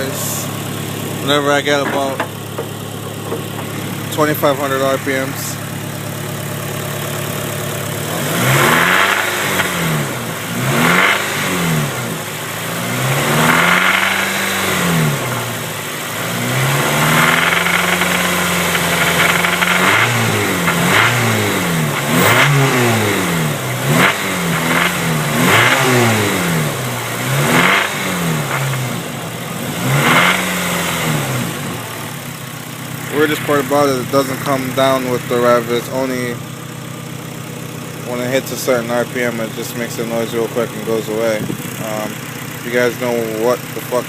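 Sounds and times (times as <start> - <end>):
car engine revving: 0.0 - 44.0
engine rattle: 0.0 - 44.0.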